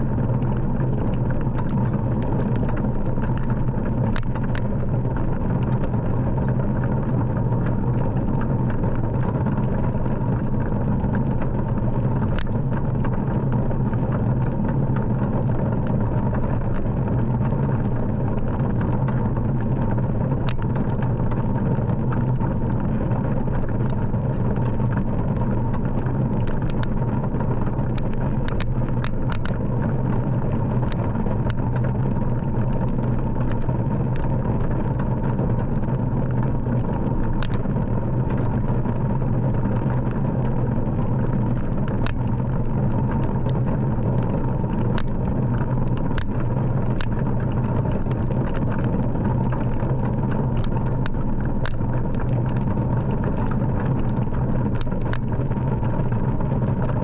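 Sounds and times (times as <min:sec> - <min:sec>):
steady motor hum: 0:00.0 - 0:57.0
faint clicks: 0:00.2 - 0:13.6, 0:23.4 - 0:40.4, 0:41.0 - 0:57.0.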